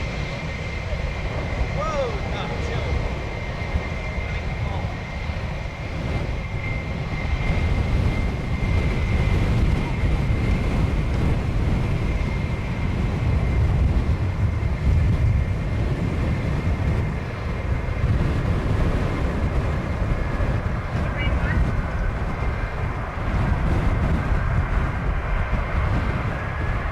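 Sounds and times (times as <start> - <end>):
jet engines whining: 0.0 - 26.9
wind buffeting microphone: 0.0 - 26.9.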